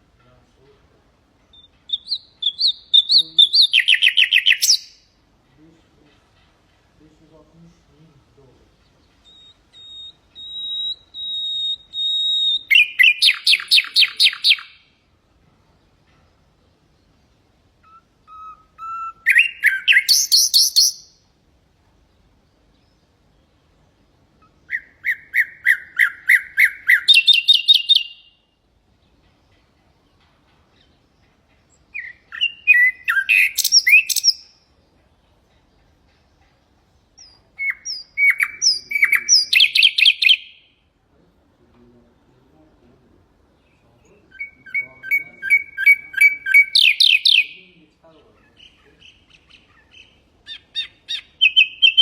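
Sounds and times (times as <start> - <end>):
nightingale singing: 0.0 - 52.0.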